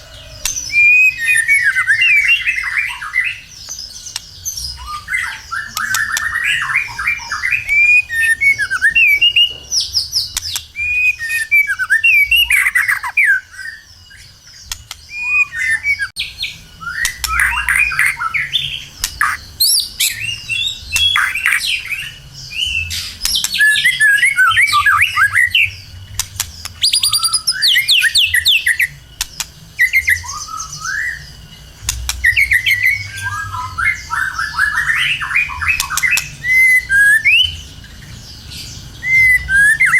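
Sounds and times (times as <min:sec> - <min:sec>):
songbird whistling phrases: 0:00.0 - 0:29.0, 0:29.8 - 0:37.7, 0:38.6 - 0:39.9.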